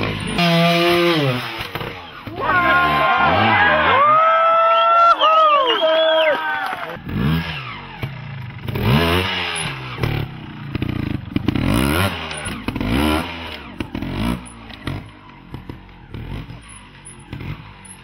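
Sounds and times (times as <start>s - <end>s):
motorcycle engine revving: 0.0s - 4.1s, 7.0s - 18.0s.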